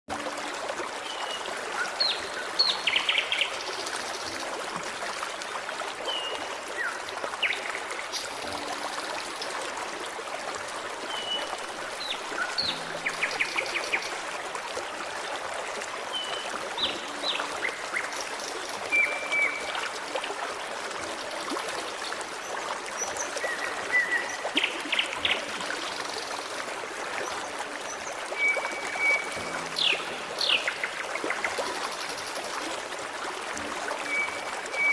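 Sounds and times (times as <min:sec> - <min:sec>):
stream trickling: 0:00.1 - 0:34.9.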